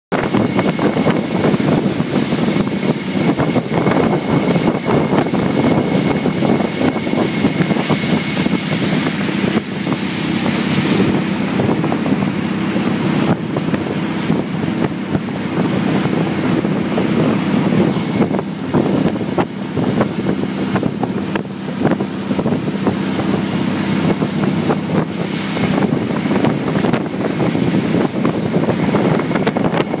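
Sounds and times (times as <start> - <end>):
boat engine running: 0.1 - 30.0
wind buffeting microphone: 0.1 - 30.0.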